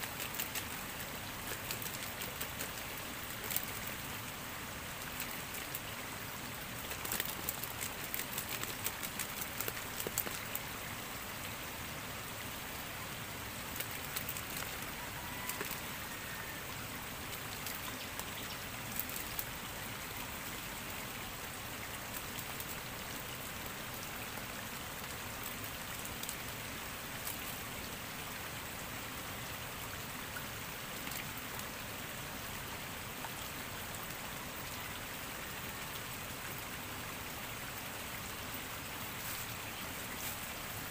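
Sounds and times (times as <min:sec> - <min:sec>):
shallow stream rushing: 0:00.0 - 0:40.9.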